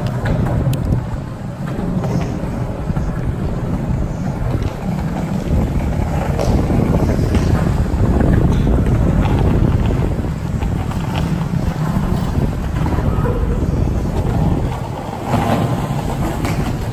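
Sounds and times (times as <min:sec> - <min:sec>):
skateboard wheels rolling on concrete: 0:00.0 - 0:16.9
wind buffeting microphone: 0:00.0 - 0:16.9.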